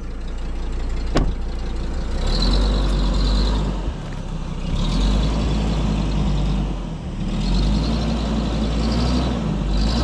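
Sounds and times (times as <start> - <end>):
heavy machine engine rumble: 0.0 - 10.0.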